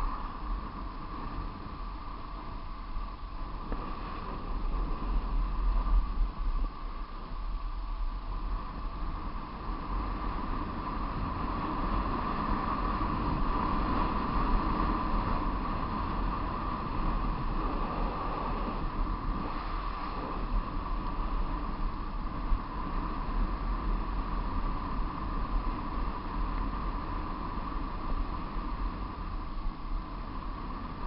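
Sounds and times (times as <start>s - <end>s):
steady hum: 0.0s - 31.0s
wind on microphone: 0.0s - 31.0s.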